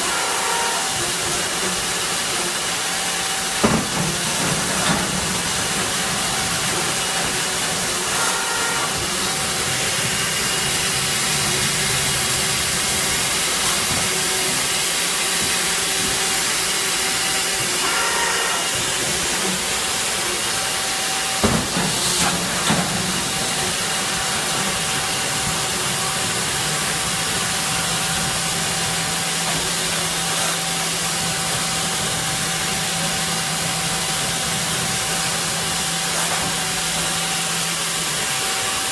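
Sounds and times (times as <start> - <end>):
machine hiss: 0.0 - 38.9.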